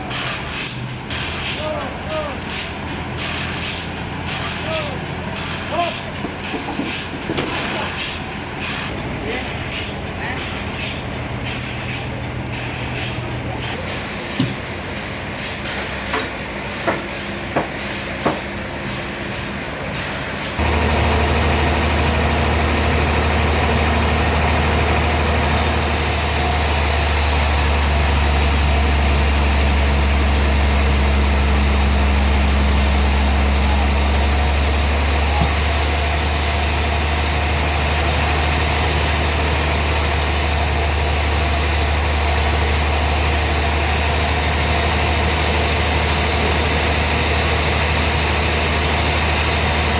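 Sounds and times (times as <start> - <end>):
sawmill machinery humming: 0.0 - 49.9.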